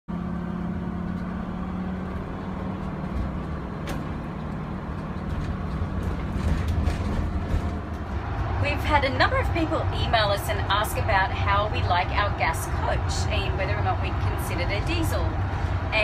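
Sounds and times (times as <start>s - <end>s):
engine hum: 0.1s - 16.0s
road rumble: 0.1s - 16.0s.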